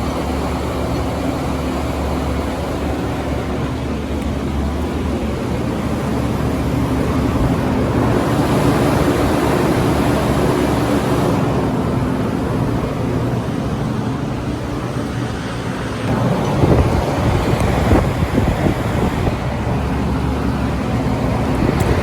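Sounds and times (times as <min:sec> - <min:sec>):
air conditioner fan rushing: 0:00.0 - 0:22.0
low compressor hum: 0:00.0 - 0:22.0.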